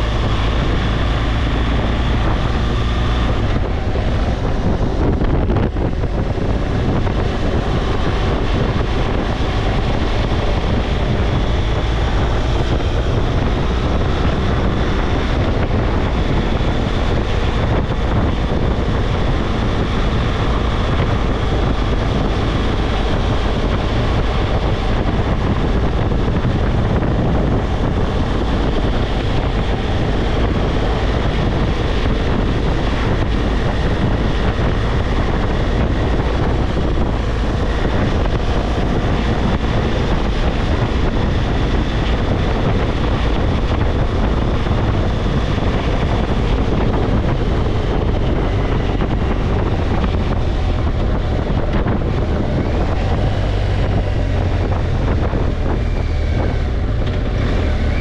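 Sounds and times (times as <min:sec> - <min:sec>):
motorcycle engine: 0:00.0 - 0:58.0
wind buffeting microphone: 0:00.0 - 0:58.0.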